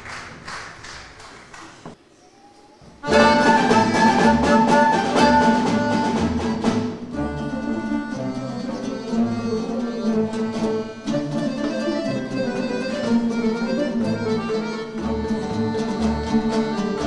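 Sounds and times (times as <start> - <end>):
folk ensemble lutes and violins: 3.0 - 17.0.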